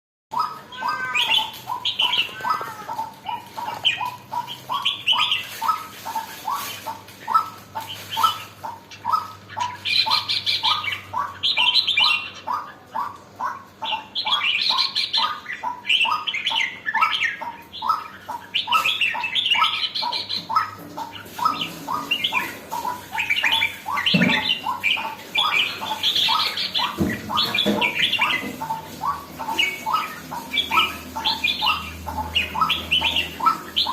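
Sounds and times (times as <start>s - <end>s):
bulbul singing warbled phrases: 0.3s - 33.9s.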